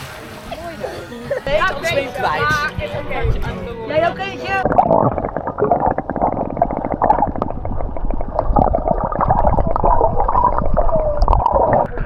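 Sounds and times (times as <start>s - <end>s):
water gurgling and sloshing: 0.0s - 3.5s, 4.5s - 12.0s.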